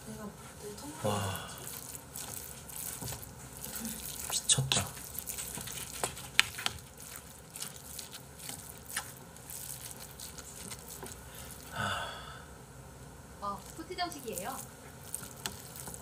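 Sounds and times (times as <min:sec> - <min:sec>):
person chewing food: 0:01.0 - 0:12.4, 0:13.6 - 0:16.0.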